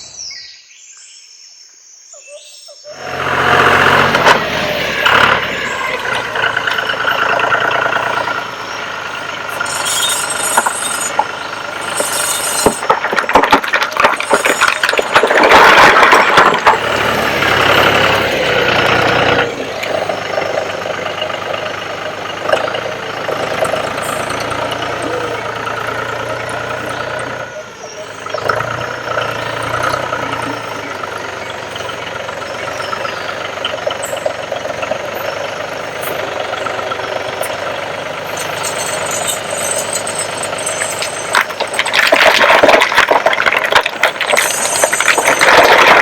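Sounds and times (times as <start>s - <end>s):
heavy vehicle engine running: 2.9s - 46.0s
sharp clattering and knocks: 4.0s - 46.0s.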